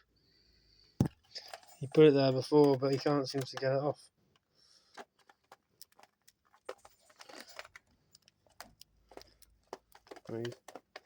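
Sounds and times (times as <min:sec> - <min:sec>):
birds beaks and feet clicking: 0:01.2 - 0:11.0.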